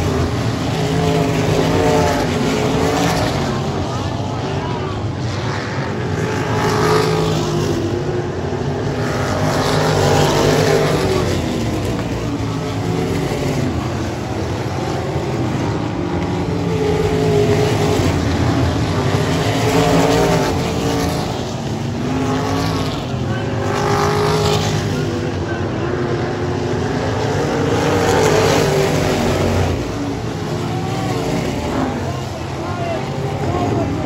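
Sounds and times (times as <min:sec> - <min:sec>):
race car engines racing: 0:00.0 - 0:34.0.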